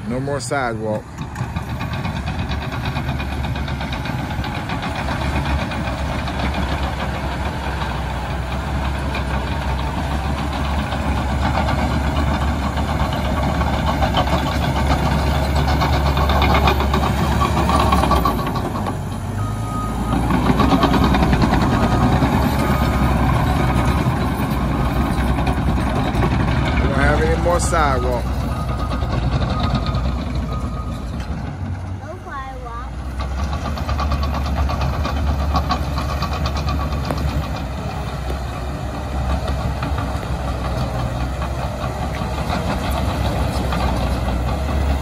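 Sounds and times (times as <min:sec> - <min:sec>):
bulldozer diesel engine: 0:00.0 - 0:45.0.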